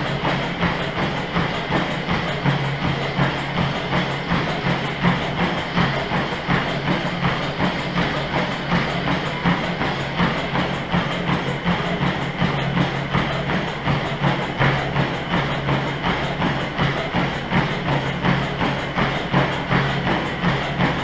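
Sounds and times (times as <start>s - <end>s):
footfalls on treadmill: 0.0s - 21.0s
treadmill motor hum: 0.0s - 21.0s.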